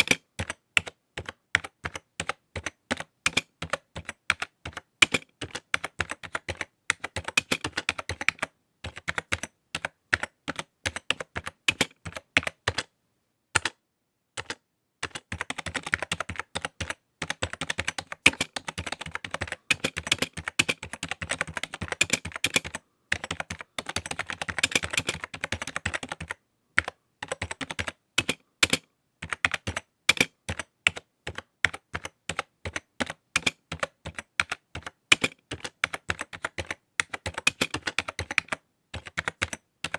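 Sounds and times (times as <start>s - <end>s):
keyboard typing: 0.0s - 12.9s, 13.6s - 13.8s, 14.4s - 39.9s.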